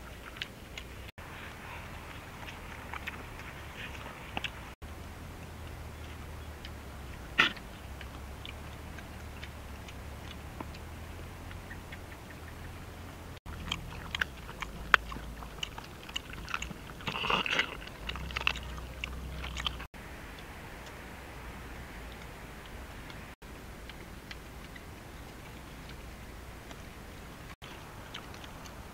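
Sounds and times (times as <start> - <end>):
dogs chewing and crunching: 0.0 - 12.8, 13.4 - 21.0, 22.1 - 28.9.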